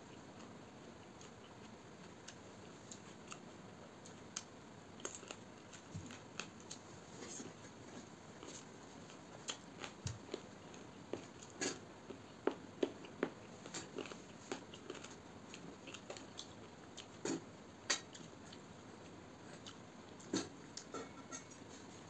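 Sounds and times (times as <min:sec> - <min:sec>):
man chewing and smacking: 0:00.1 - 0:20.9.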